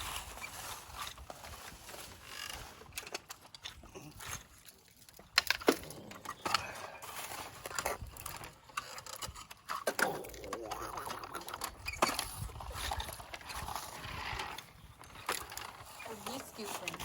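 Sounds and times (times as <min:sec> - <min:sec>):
toy vehicles scraping through dirt: 0:00.0 - 0:17.0.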